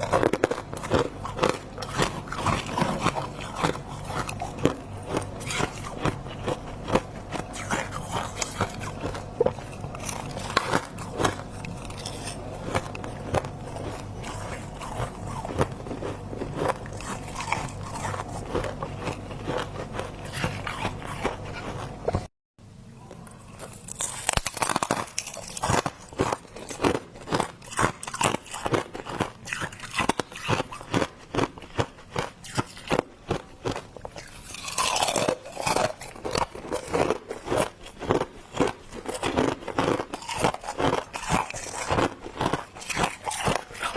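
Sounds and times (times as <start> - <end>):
icy crunching of chewed frost: 0.0 - 22.3, 23.2 - 43.9.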